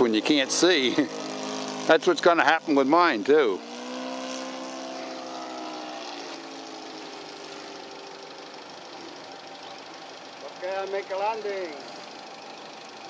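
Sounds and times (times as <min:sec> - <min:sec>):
model airplane engine drone: 0:00.0 - 0:13.0.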